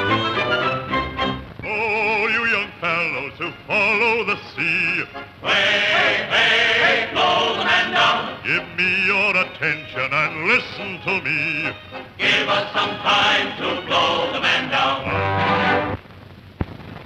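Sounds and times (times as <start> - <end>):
orchestral accompaniment: 0.0 - 16.0
male choir singing: 1.6 - 15.9.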